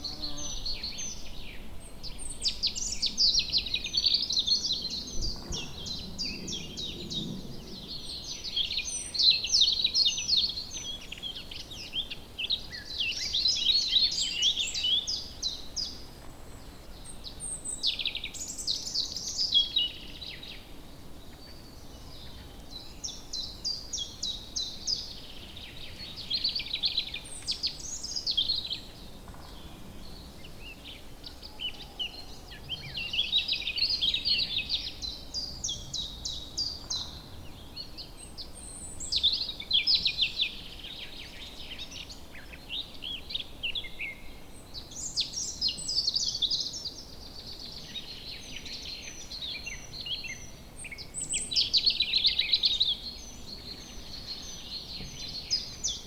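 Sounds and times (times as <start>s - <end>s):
faint background hiss: 0.0s - 56.0s
songbirds singing trills: 0.0s - 56.0s.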